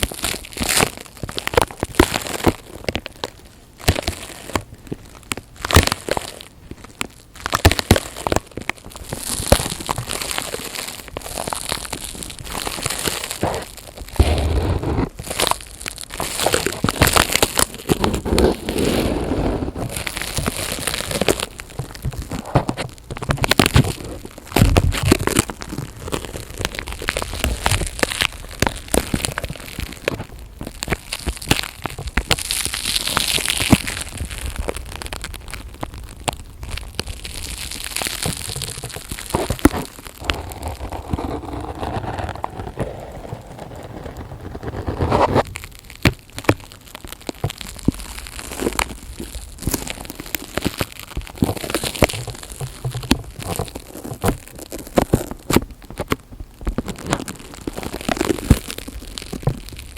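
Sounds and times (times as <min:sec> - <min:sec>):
close crackling and crinkling: 0:00.0 - 0:59.9.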